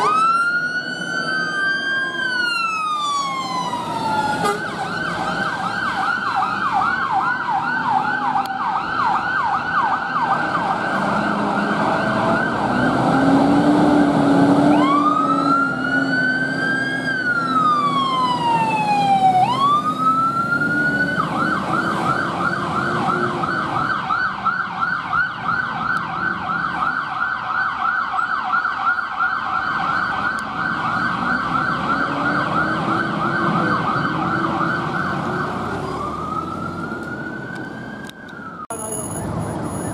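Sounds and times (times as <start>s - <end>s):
fire engine siren: 0.0s - 39.9s.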